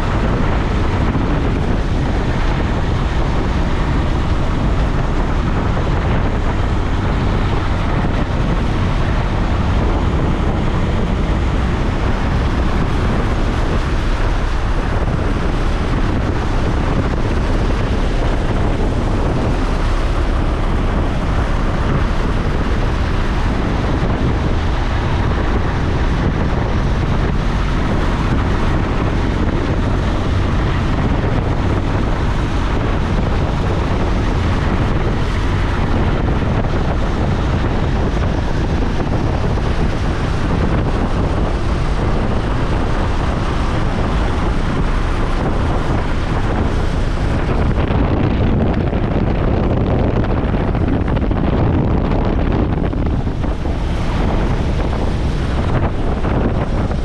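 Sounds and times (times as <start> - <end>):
airplane engine and propeller drone: 0.0 - 57.0
wind rush on microphone: 0.0 - 57.0.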